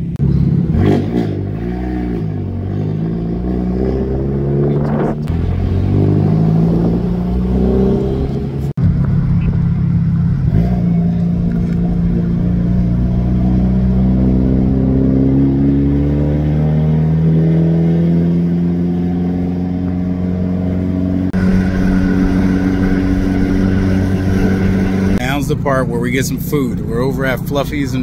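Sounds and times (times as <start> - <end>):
car engine and exhaust droning: 0.0 - 28.0.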